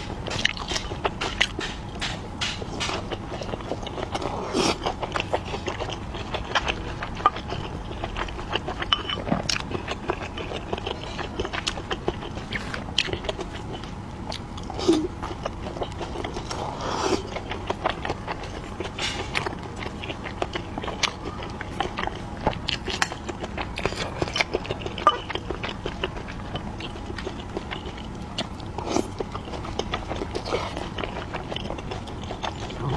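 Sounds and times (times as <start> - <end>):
wet chewing sounds: 0.0 - 32.9.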